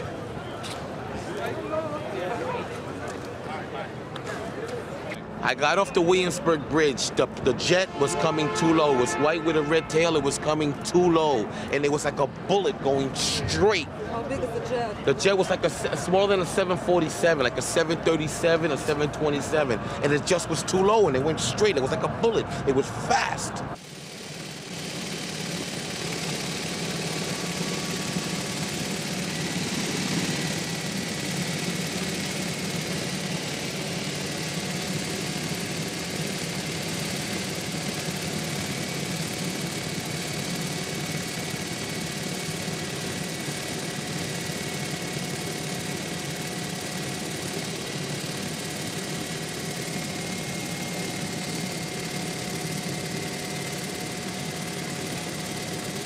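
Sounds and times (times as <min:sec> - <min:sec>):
helicopter engine and rotor drone: 0:00.0 - 0:56.0
high constant whine: 0:00.0 - 0:56.0.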